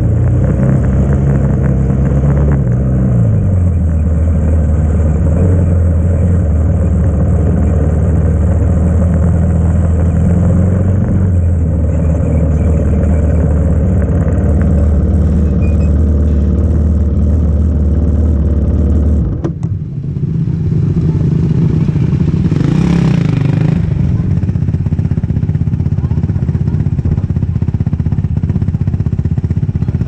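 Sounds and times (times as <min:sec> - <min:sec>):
quad engine idling: 0:02.8 - 0:19.2, 0:19.8 - 0:30.0.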